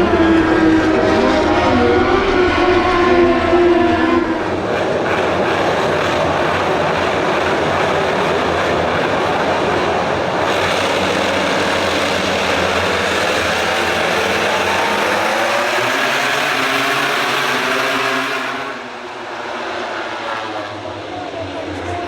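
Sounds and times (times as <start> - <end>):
racing motorcycle engines: 0.0 - 22.0.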